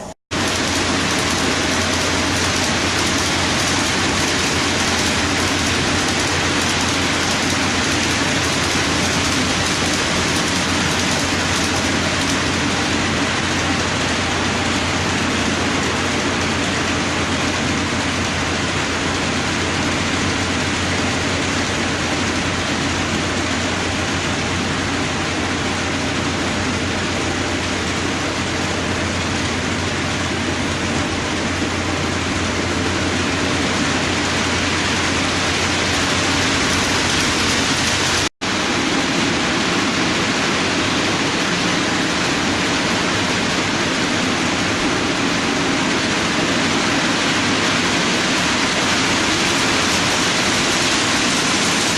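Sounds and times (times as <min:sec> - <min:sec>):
model train cars rolling on track: 0:00.0 - 0:51.9.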